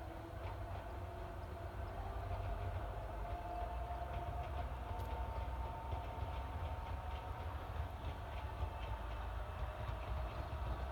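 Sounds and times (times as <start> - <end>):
electric train whine and rumble: 0.0 - 10.9
wheels clicking on track: 0.0 - 10.9.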